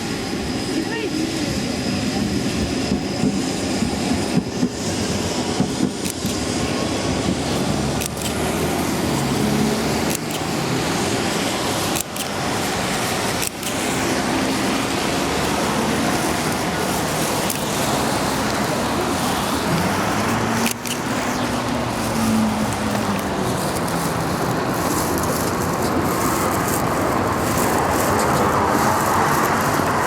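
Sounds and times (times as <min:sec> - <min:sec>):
traffic noise hiss: 0:00.0 - 0:30.0.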